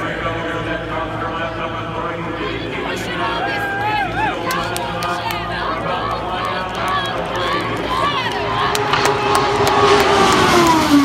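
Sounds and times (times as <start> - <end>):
race car engine passing: 0.0 - 11.0.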